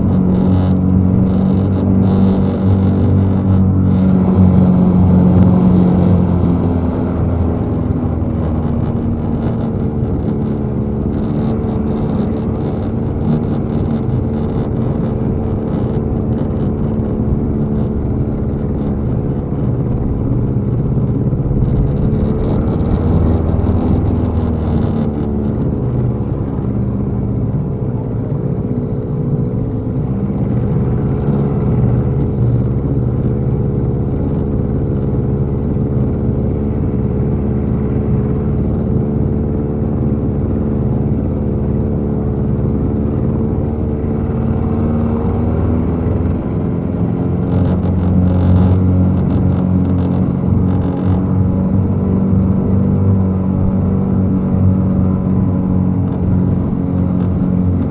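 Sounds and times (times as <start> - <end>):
outboard motor running: 0.0 - 57.9.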